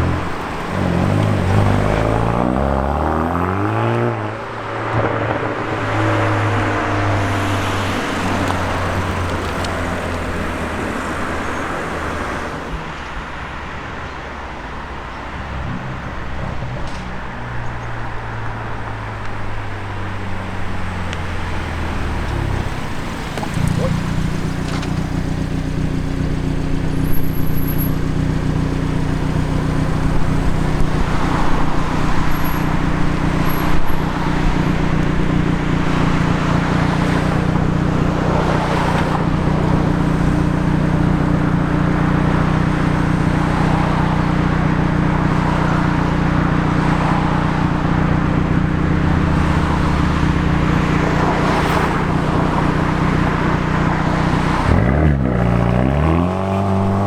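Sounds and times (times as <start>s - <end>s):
car engine idling: 0.0s - 2.3s, 4.4s - 54.7s
outdoor crowd noise: 0.0s - 57.0s.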